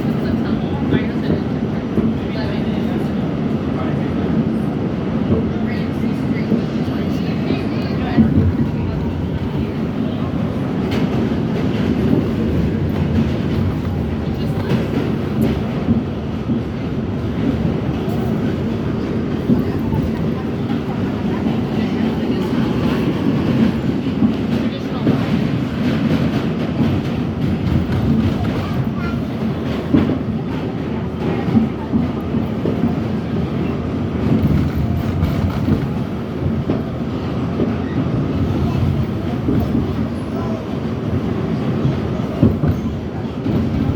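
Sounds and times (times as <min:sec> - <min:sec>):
subway train rumbling: 0:00.0 - 0:43.9.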